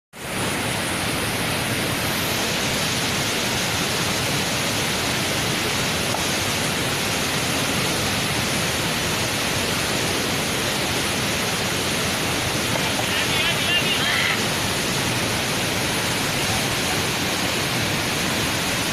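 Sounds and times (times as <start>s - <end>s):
rushing white-water rapids: 0.2s - 18.9s.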